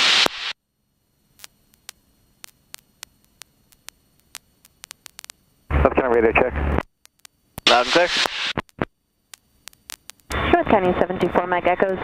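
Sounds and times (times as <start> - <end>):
static clicks and crackles: 0.0 - 12.0.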